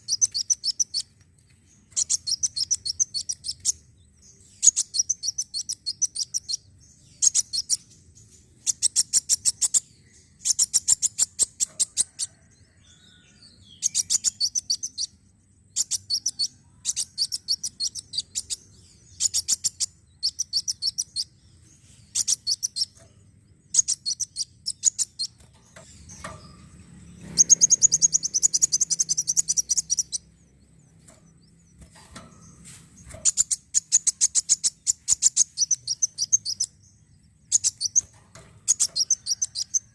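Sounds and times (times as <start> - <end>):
sunbird chittering trills: 0.0 - 39.9.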